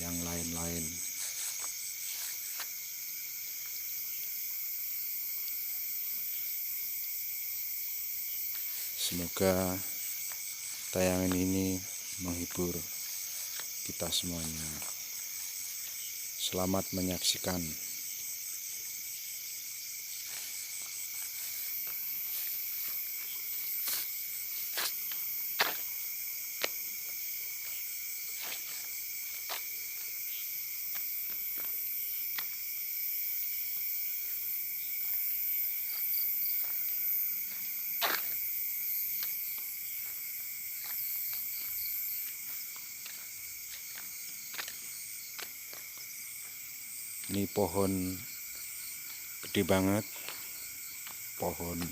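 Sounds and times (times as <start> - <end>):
crickets and insects trilling: 0.0 - 51.9.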